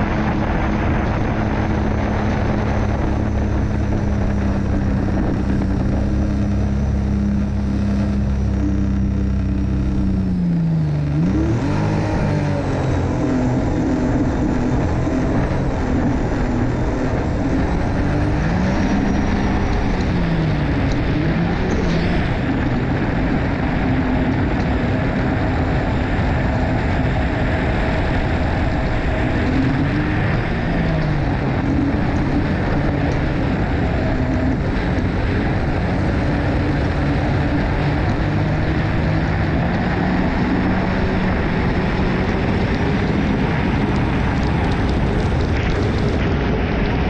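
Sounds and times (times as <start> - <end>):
water and wind rush: 0.0 - 47.0
watercraft engine running hard: 0.0 - 47.0.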